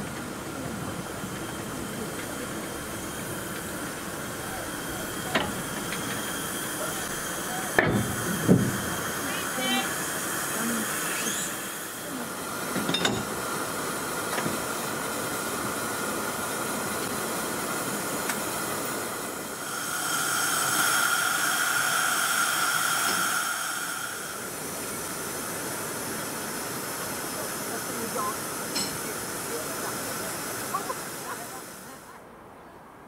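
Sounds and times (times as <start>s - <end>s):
steam locomotive hissing: 0.0s - 32.2s.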